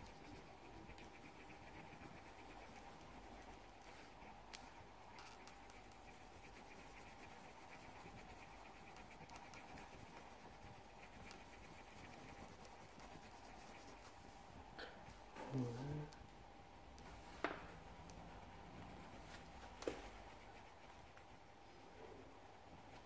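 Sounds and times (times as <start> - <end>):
pencil scratching on paper: 0.0 - 14.6, 17.0 - 23.0
faint steady hum: 0.0 - 23.0.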